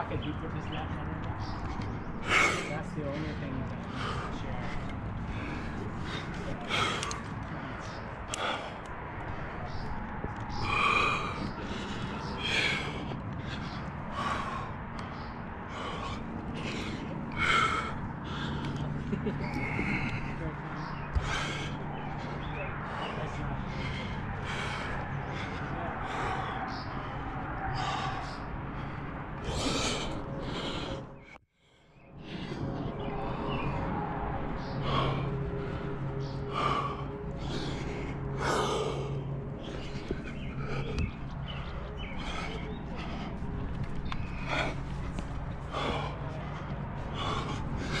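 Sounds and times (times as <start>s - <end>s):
steady low hum: 0.0s - 48.0s
person breathing hard: 1.4s - 48.0s.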